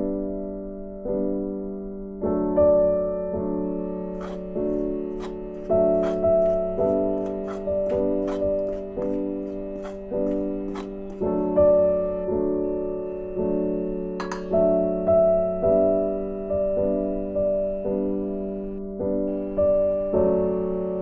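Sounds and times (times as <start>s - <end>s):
gentle piano tune: 0.0s - 21.0s.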